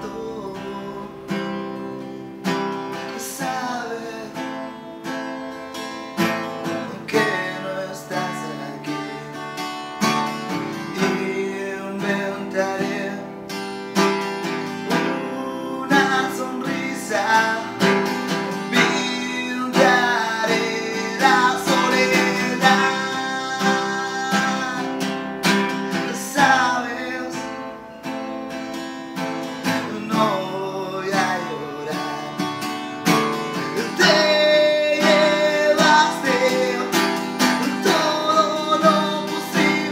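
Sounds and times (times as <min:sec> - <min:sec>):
man singing: 0:00.0 - 0:05.1, 0:06.2 - 0:13.8, 0:14.4 - 0:28.1, 0:29.2 - 0:39.9
acoustic guitar strumming: 0:00.0 - 0:39.9.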